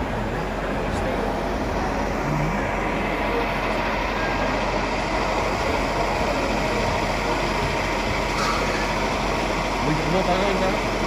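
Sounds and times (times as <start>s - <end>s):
model engine drone: 0.0s - 11.0s.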